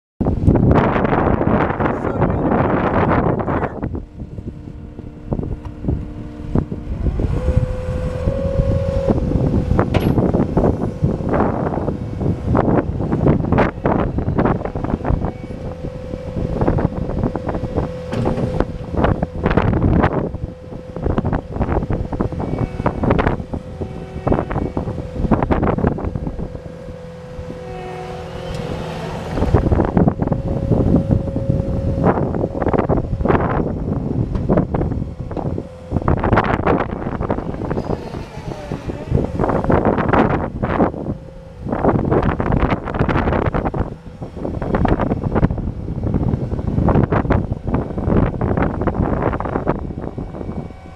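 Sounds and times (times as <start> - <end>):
diesel engine humming: 0.2 - 50.9
steady whine: 0.2 - 50.9.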